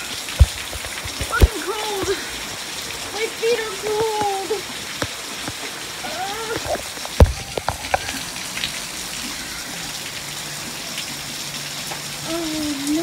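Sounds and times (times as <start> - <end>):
heavy rain splattering: 0.0 - 13.0
water running off roof: 0.0 - 13.0.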